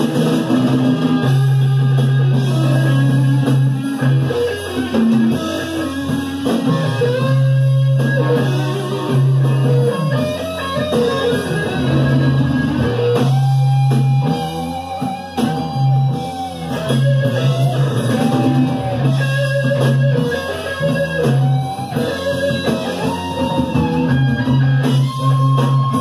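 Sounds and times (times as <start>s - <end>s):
bass guitar: 0.0s - 26.0s
drum kit: 0.0s - 26.0s
electric guitar lead: 0.0s - 26.0s.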